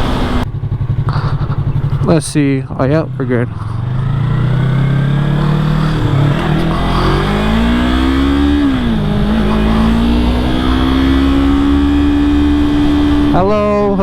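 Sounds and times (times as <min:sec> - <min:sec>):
motorcycle accelerating: 0:00.0 - 0:14.0.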